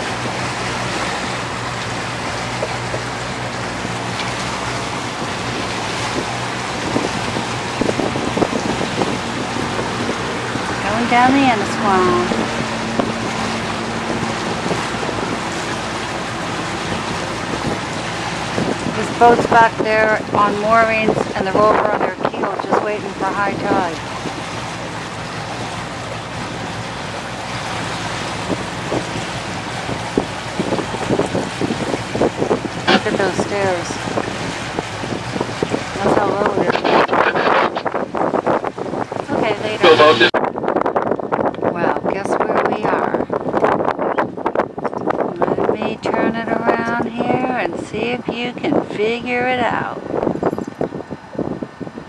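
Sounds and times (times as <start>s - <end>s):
boat engine running: 0.0s - 52.0s
water rushing past hull: 0.0s - 52.0s
wind on microphone: 0.0s - 52.0s.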